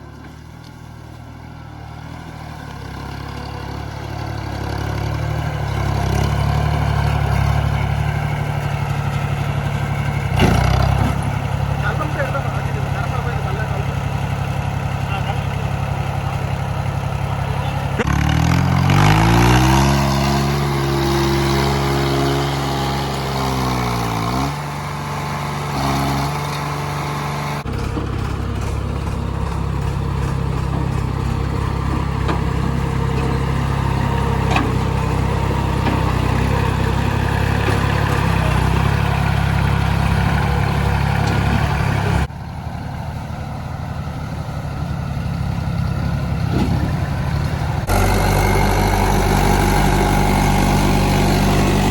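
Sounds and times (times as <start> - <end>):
tractor diesel engines under load: 0.0 - 51.9.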